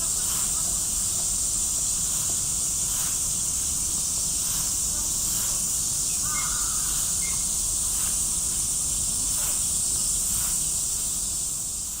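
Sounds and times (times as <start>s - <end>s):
cicada chorus drone: 0.0s - 12.0s.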